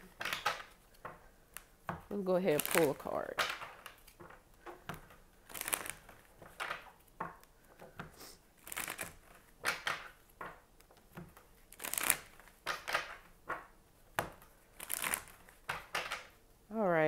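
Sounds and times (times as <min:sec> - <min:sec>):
cards being shuffled: 0:00.0 - 0:16.4.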